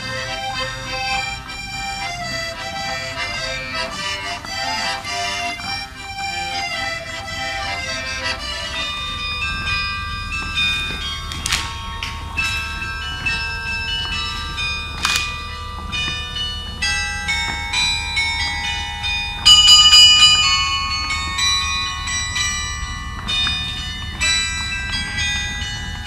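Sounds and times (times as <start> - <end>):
carillon bells playing a tune: 0.0 - 26.0.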